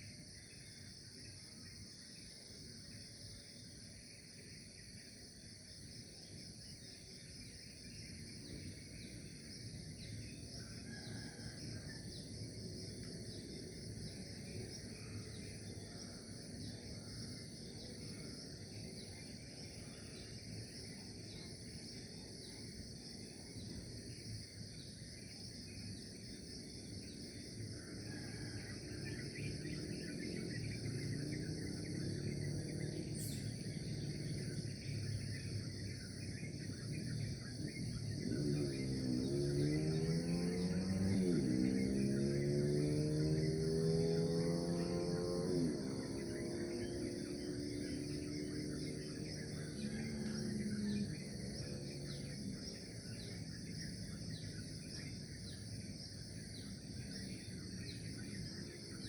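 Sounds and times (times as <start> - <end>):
crickets trilling: 0.0 - 59.0
faint bird chirps: 0.0 - 59.0.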